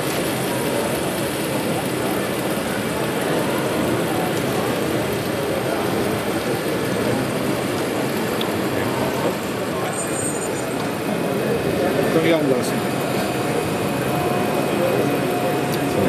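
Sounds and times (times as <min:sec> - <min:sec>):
model locomotive running: 0:00.0 - 0:16.0
murmur of voices: 0:00.0 - 0:16.0.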